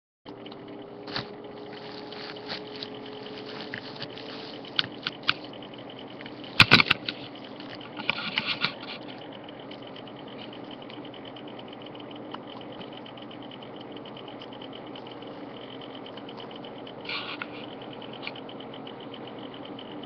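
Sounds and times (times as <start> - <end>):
faint hum: 0.3 - 20.0.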